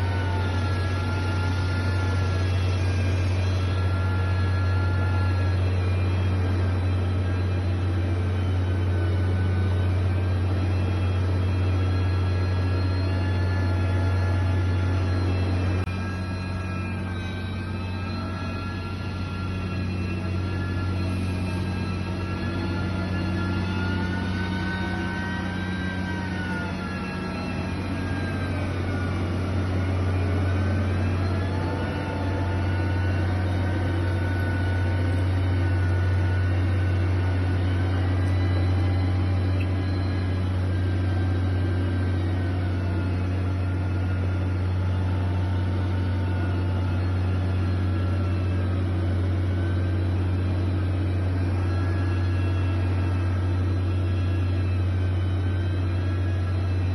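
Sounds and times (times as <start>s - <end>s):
faint high whines: 0.0s - 56.9s
heavy engine drone: 0.0s - 56.9s.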